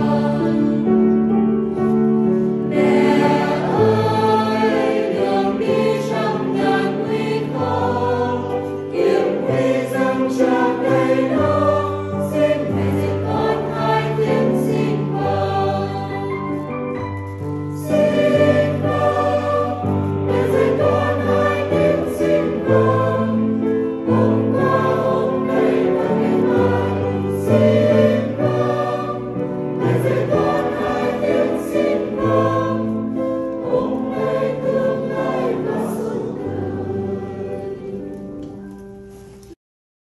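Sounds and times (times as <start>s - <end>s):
choir singing a hymn: 0.0s - 38.8s.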